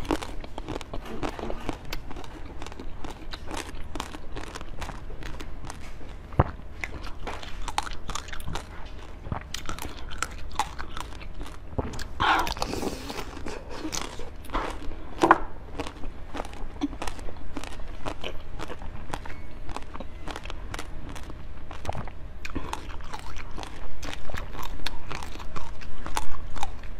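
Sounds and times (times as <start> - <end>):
biting and crunching ice-cream bar: 0.0 - 26.9.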